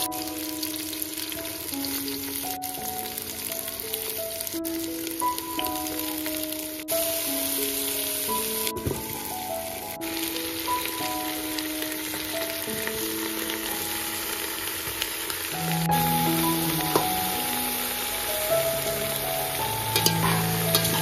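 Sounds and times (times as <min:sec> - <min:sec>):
background music of held notes: 0:00.0 - 0:21.0
food sizzling in hot oil: 0:00.0 - 0:21.0.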